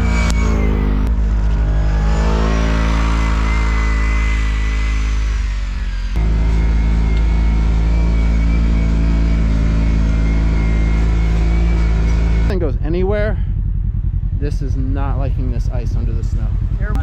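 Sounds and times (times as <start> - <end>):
engine running under load: 0.0 - 17.0
high whine: 0.0 - 17.0.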